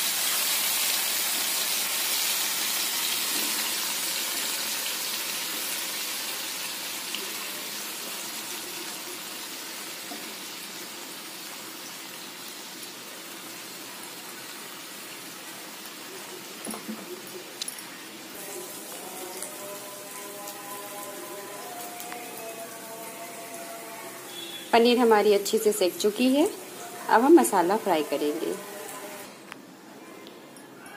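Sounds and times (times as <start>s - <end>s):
cheese sizzling in a frying pan: 0.0s - 29.3s.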